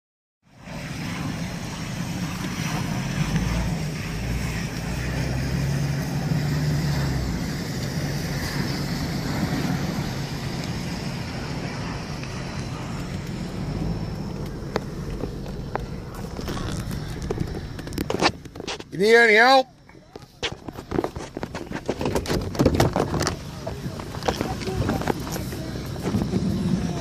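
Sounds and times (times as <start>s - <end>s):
continuous rushing noise: 0.4s - 27.0s
vehicle engine humming: 0.4s - 27.0s.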